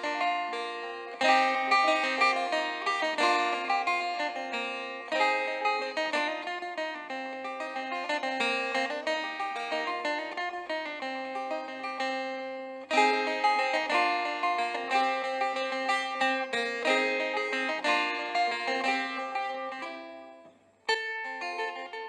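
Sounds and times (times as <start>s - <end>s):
plucked string instrument music: 0.0s - 22.0s.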